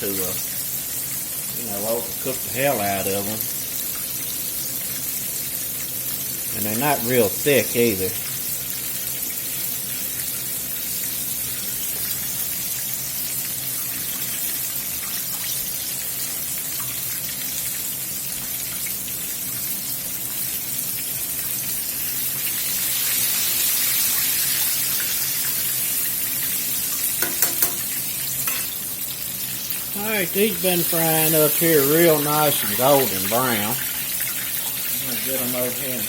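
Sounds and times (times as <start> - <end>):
chicken sizzling in oil: 0.0 - 36.0.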